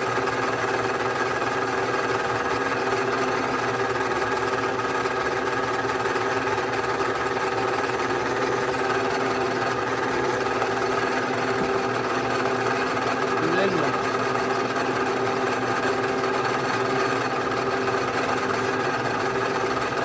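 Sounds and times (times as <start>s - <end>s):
milling machine whirring: 0.0s - 20.0s.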